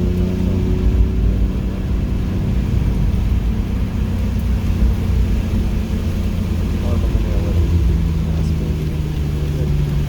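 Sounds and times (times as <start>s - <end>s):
car engine steady note: 0.0s - 10.0s
road and wind rumble: 0.0s - 10.0s.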